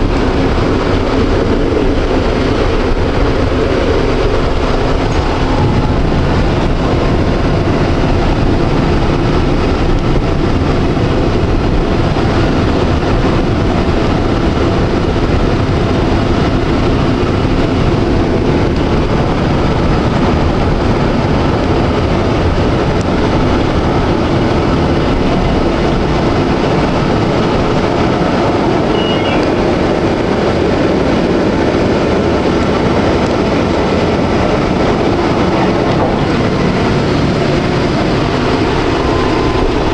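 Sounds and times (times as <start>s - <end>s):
tram wheels rumbling on rails: 0.0s - 39.9s.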